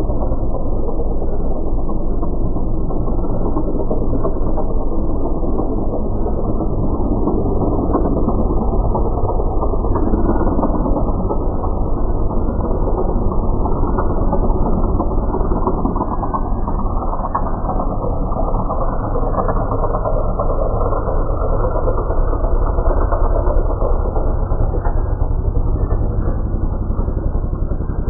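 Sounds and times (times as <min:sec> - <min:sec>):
slowed airplane engine rumble: 0:00.0 - 0:28.0.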